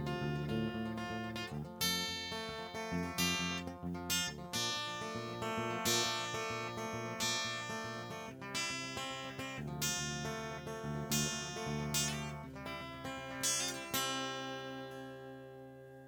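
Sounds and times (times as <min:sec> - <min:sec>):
acoustic guitar strumming: 0:00.0 - 0:15.4.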